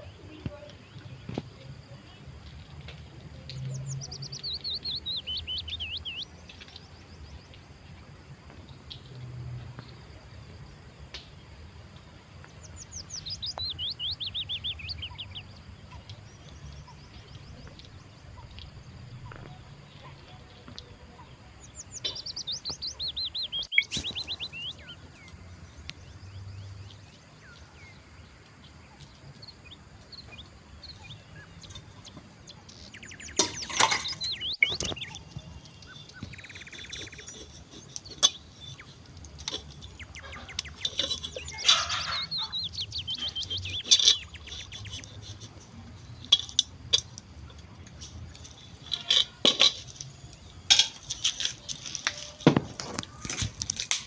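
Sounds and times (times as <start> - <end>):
songbird singing falling notes: 0.0 - 7.6, 12.4 - 19.7, 20.6 - 54.0.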